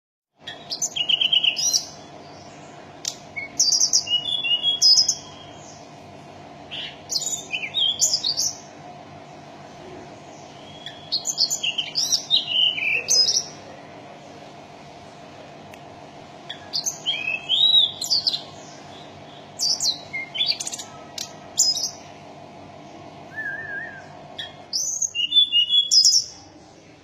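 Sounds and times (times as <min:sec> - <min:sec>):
songbird chirping and trilling: 0:00.4 - 0:27.0
steady low hum: 0:00.4 - 0:27.0.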